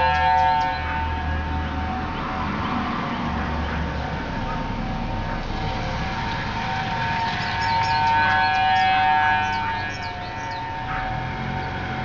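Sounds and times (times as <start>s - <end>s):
warning sirens steady tone: 0.0s - 12.0s.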